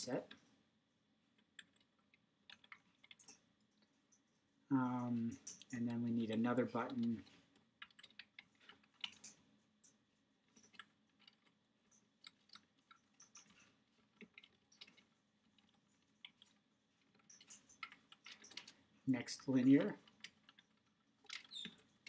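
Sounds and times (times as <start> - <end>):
keyboard typing: 1.4 - 4.2, 5.2 - 18.8, 19.6 - 22.0.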